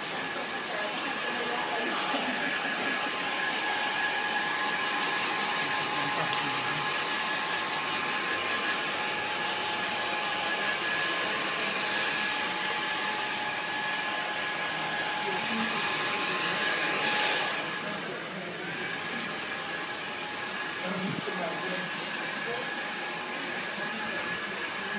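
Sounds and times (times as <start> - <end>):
hair dryer blowing: 0.0 - 24.9.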